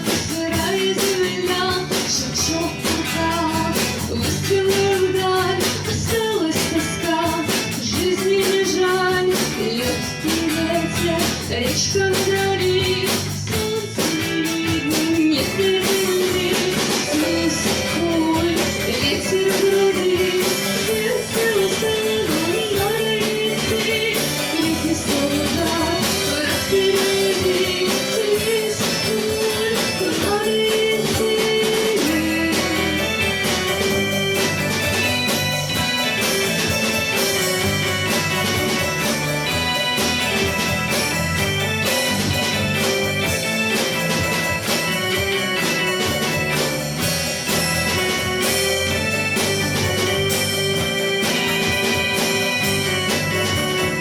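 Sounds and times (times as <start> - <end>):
drums steady beat: 0.0 - 54.0
electric guitar: 0.0 - 54.0
rock band playing: 0.0 - 54.0.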